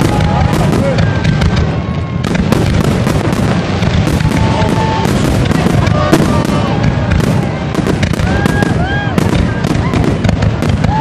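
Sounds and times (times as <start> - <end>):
fireworks cracking and booming: 0.0 - 11.0.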